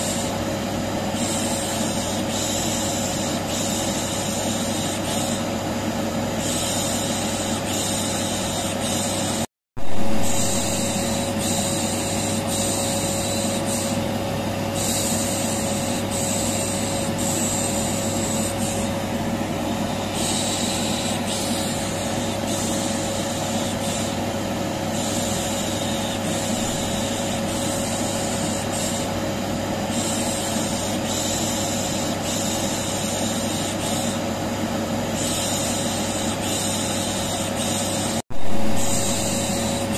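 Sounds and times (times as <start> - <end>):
vacuum cleaner running: 0.0 - 1.6, 2.2 - 30.6, 37.2 - 39.9.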